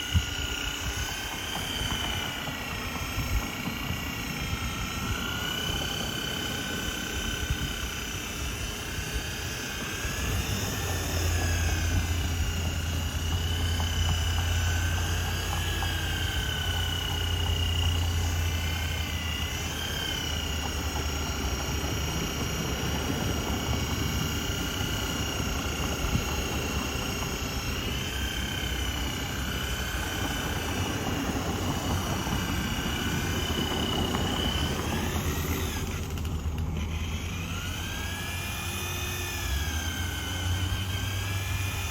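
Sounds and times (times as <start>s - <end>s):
electric polisher whining: 0.0s - 41.9s.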